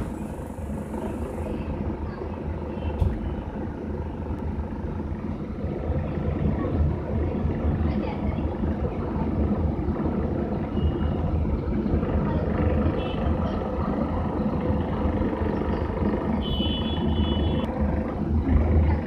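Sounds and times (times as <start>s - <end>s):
bus and traffic engines running: 0.0s - 19.0s.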